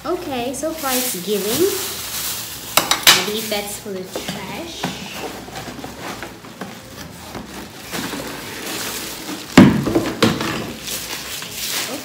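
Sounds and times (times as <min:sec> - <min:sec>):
cardboard and plastic rustling: 0:00.6 - 0:12.0.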